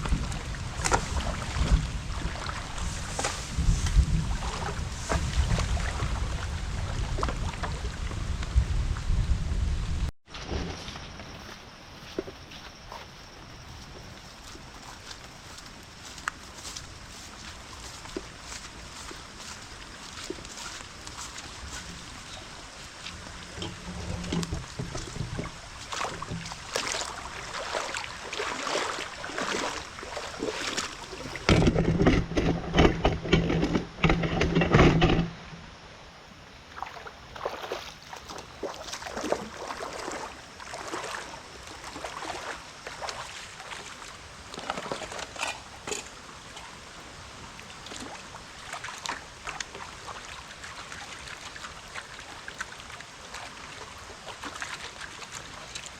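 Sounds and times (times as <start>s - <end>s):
water sloshing and splashing: 0.0s - 9.0s, 14.0s - 35.5s, 36.7s - 55.9s.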